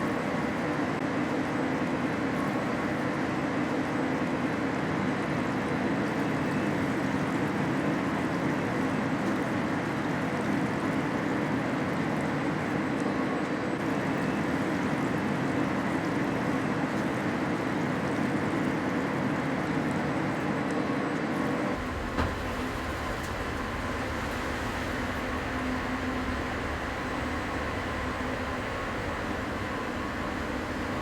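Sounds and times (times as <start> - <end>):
machinery and ventilation rush: 0.0 - 31.0.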